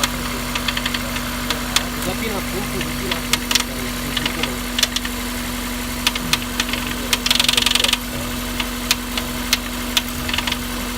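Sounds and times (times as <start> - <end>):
car engine idling: 0.0 - 10.9
rattle of clicks: 0.0 - 10.9
sharp engine ticks: 0.0 - 10.9.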